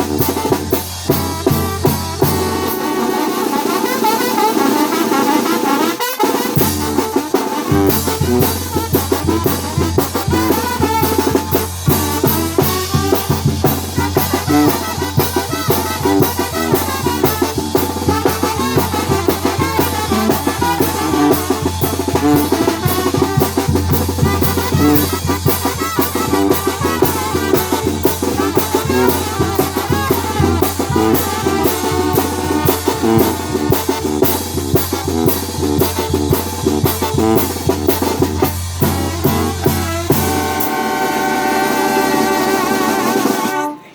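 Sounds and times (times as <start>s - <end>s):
band playing a song: 0.0s - 43.9s
drum kit beat: 0.0s - 43.9s.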